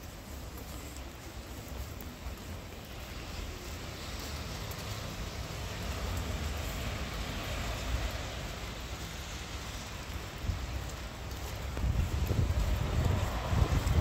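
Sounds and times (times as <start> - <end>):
traffic rumble with hiss: 0.0 - 14.0.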